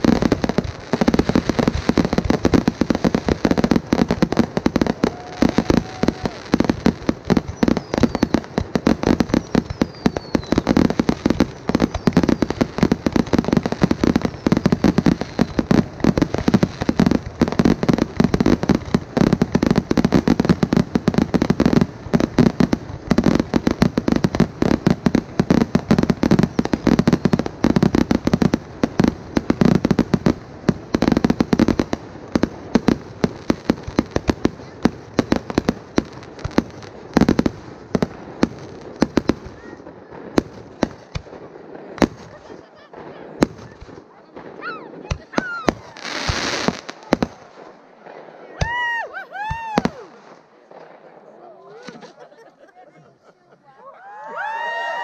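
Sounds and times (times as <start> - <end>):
fireworks launches and bursts: 0.0 - 52.2.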